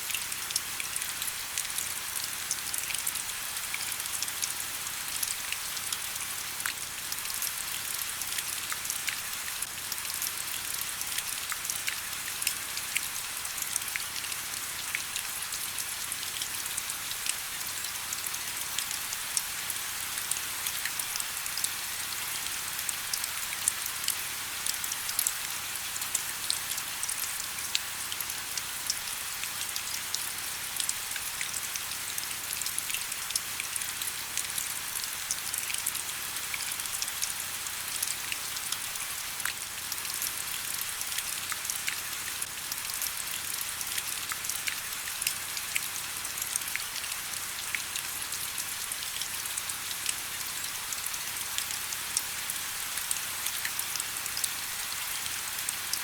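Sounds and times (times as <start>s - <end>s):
steady rain with drop ticks: 0.0s - 56.0s.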